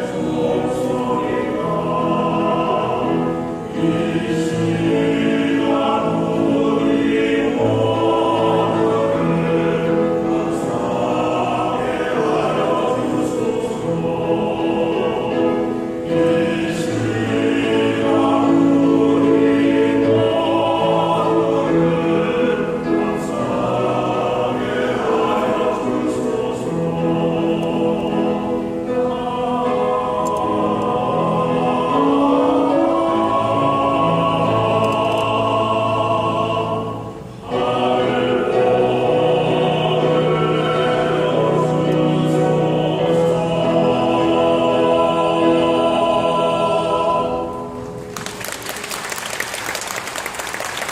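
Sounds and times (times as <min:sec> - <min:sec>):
choir singing a hymn: 0:00.0 - 0:49.3.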